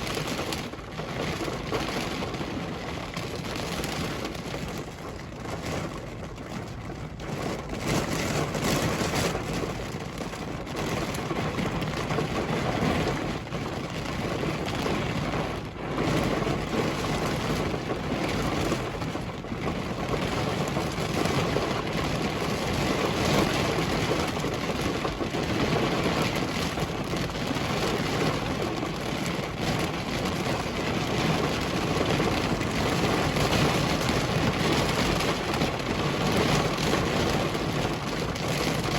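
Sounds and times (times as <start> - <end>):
heavy rain on a car: 0.0 - 38.9.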